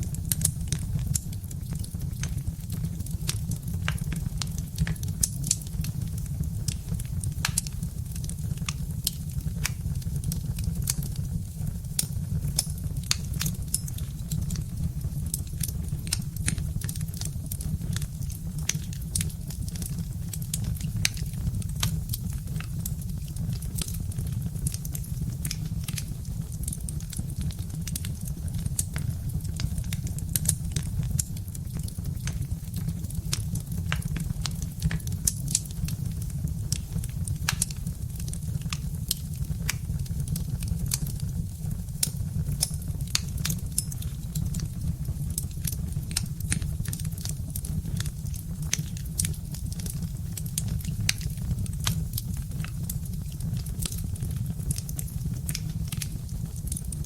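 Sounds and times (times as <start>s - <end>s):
wood fire crackling: 0.0s - 57.0s
sharp pops and snaps: 0.1s - 57.0s.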